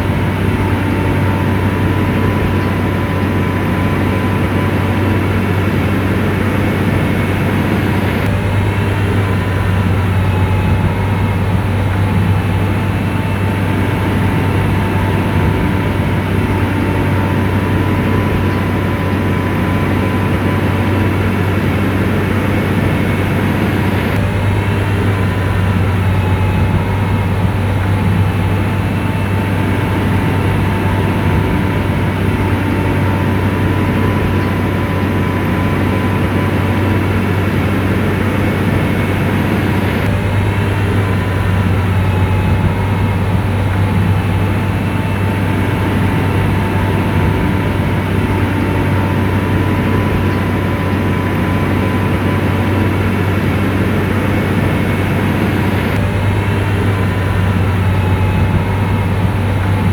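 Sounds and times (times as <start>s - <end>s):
diesel engine humming: 0.0s - 59.9s
faint whine: 0.0s - 59.9s.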